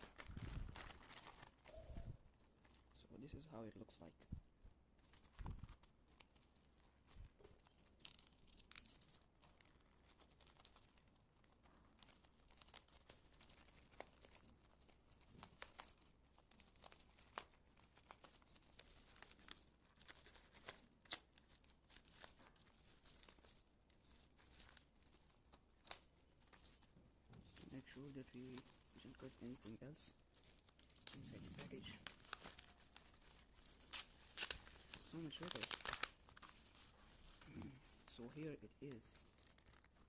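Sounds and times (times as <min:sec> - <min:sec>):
packaging crinkling: 0:00.0 - 0:03.0, 0:05.0 - 0:40.0.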